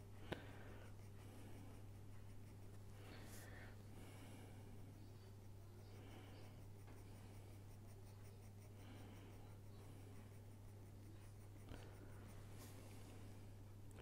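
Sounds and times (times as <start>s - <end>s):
pencil scratching on paper: 0.0s - 13.6s
low electrical hum: 0.0s - 14.0s.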